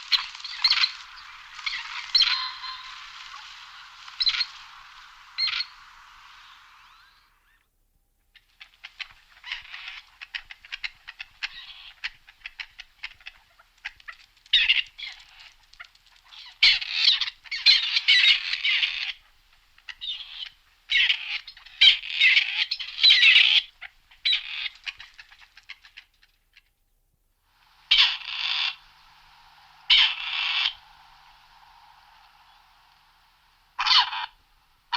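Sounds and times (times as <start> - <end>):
partridge chattering calls: 0.0 - 7.2, 8.4 - 26.7, 27.8 - 34.9.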